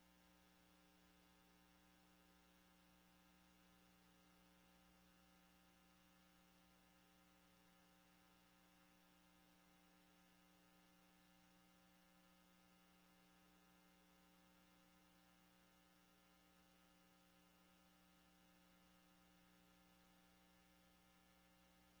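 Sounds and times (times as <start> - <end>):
faint electrical mains hum: 0.0 - 22.0.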